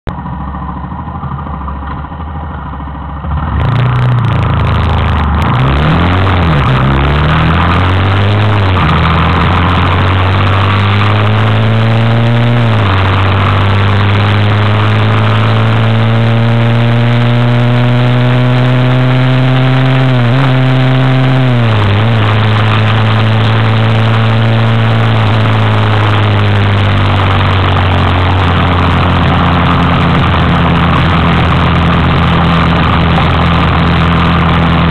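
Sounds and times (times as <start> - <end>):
motorcycle engine: 0.1 - 34.9
heavy wind noise: 3.5 - 34.9.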